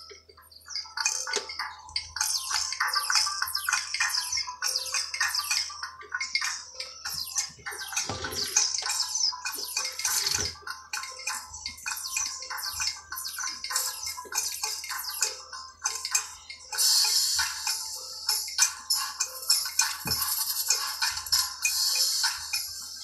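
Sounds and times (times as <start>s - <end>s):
instrumental music with shaken percussion: 1.0s - 23.0s.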